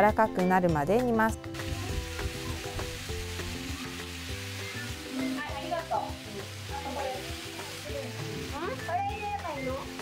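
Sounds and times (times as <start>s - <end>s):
soft music: 0.0s - 10.0s
chicken frying in oil: 1.5s - 10.0s.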